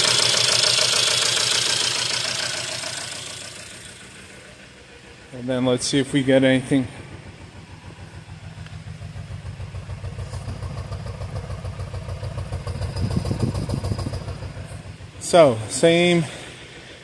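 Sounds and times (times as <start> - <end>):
car engine idling with misfire: 0.0 - 17.0.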